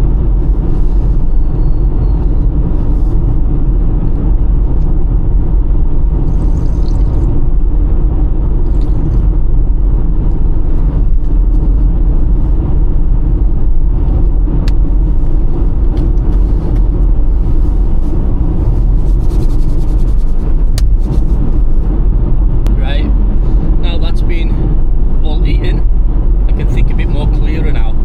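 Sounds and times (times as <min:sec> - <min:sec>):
van engine and road rumble: 0:00.0 - 0:28.0.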